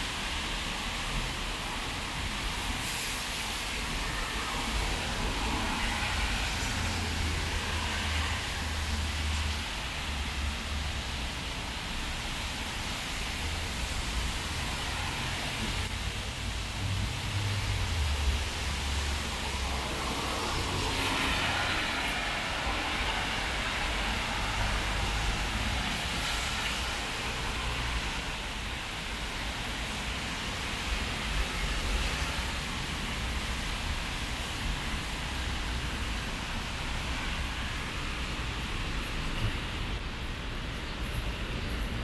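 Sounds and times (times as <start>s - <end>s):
low traffic rumble: 0.0s - 42.0s
tyres hissing on wet road: 0.0s - 42.0s.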